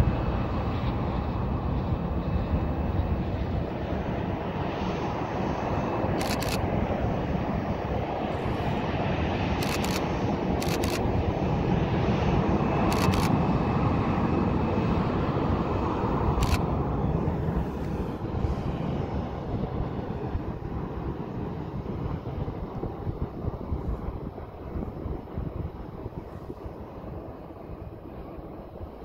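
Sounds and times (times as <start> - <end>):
jet engines rumbling with whine: 0.0 - 29.0.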